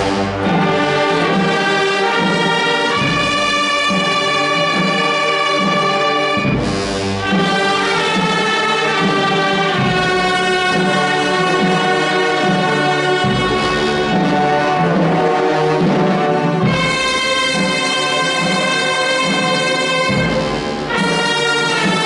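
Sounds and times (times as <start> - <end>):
wind band playing chords: 0.0 - 22.0.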